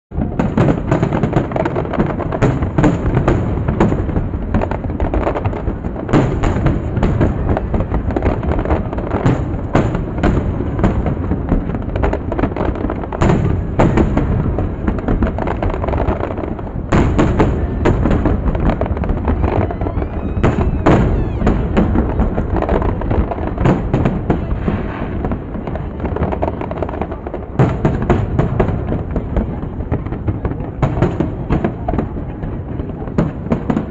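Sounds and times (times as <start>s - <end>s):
fireworks bangs and booms: 0.1s - 33.9s.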